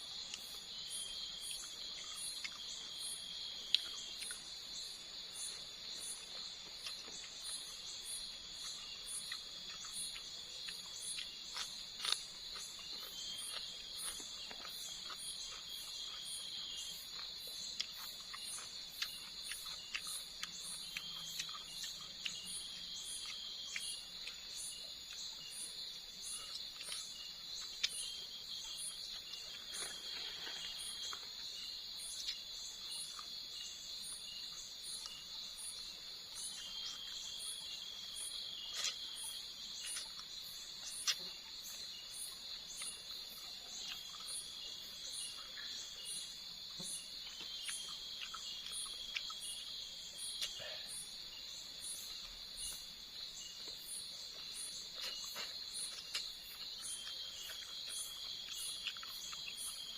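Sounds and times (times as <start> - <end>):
insect chirping: 0.0 - 59.9
insects droning: 0.0 - 59.9.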